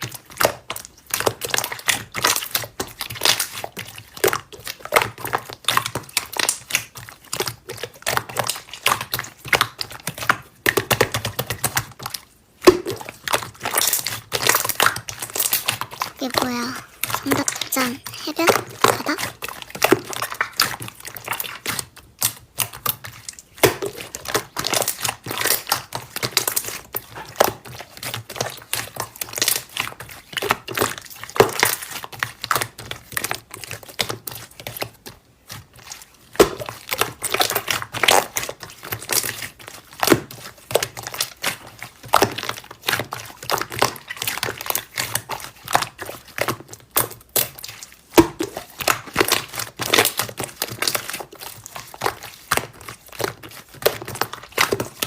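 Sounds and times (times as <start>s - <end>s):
slime crackling and popping: 0.0s - 55.0s.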